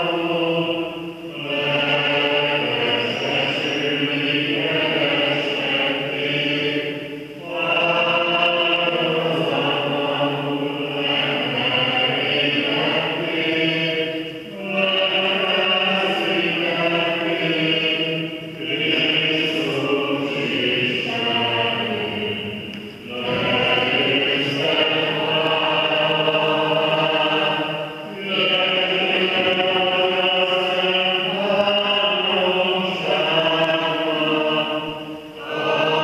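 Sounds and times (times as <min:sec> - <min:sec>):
voices singing liturgical chant: 0:00.0 - 0:36.0.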